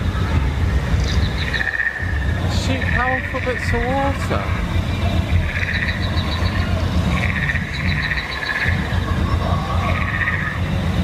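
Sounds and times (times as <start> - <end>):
steady low rumble: 0.0 - 11.0
frog-like trilling calls: 1.0 - 10.7.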